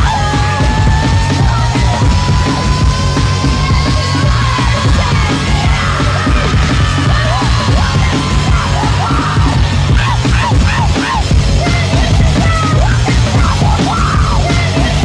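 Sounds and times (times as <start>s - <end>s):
breakcore music: 0.0s - 15.0s.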